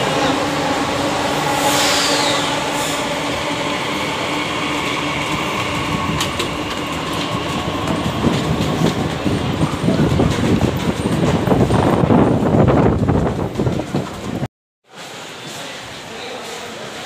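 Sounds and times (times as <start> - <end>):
metro train rumbling: 0.0 - 14.5.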